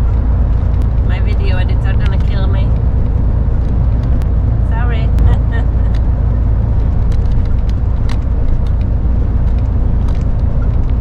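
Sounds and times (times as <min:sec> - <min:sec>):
lorry engine and road rumble: 0:00.0 - 0:11.0.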